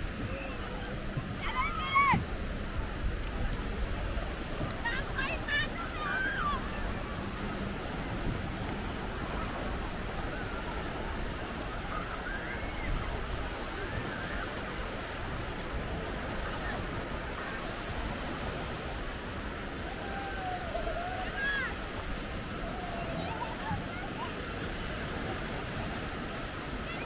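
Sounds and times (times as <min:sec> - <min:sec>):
surf washing onto beach: 0:00.0 - 0:27.0.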